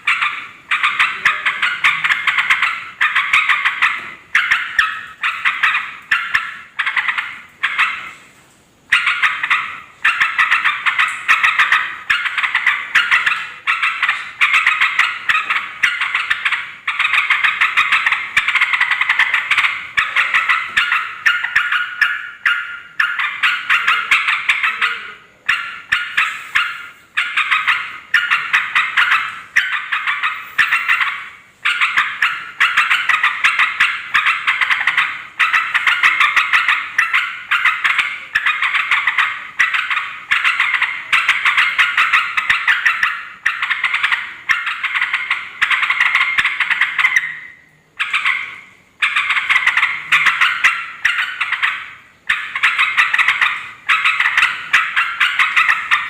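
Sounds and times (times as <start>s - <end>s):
bulbuls chattering: 0.0s - 8.2s, 8.9s - 56.0s.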